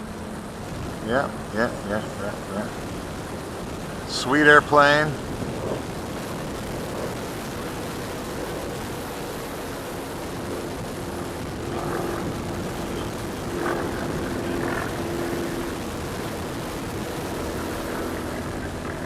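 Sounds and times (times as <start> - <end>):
propeller airplane engine drone: 0.0 - 19.0.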